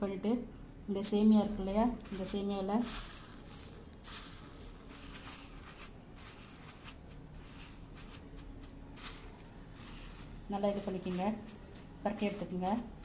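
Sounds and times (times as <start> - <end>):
dry noodles rustling and crackling: 1.0 - 13.0.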